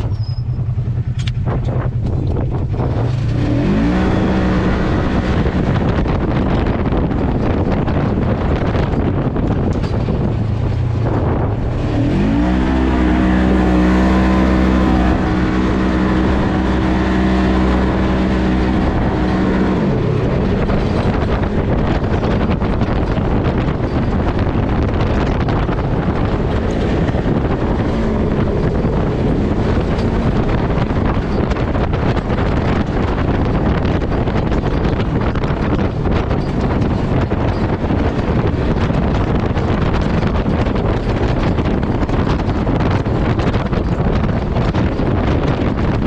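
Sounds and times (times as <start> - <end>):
off-road vehicle noise: 0.0 - 46.0
wind buffeting microphone: 0.0 - 46.0.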